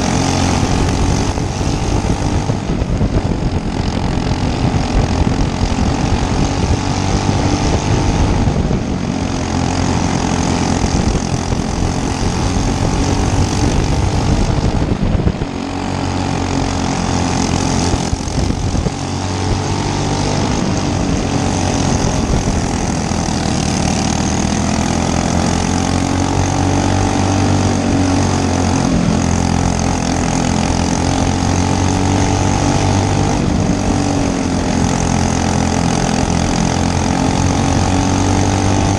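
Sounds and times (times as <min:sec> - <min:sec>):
racing kart engine revving: 0:00.0 - 0:38.9.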